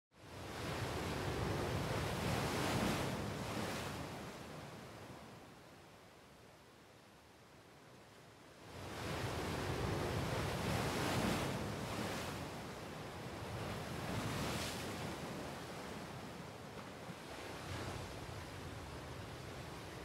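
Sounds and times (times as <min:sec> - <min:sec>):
waves breaking on beach: 0:00.3 - 0:05.4, 0:08.6 - 0:20.0.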